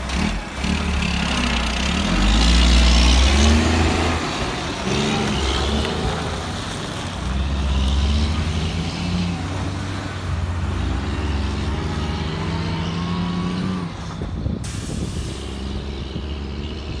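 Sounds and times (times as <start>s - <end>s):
truck diesel engine pulling away: 0.0s - 17.0s.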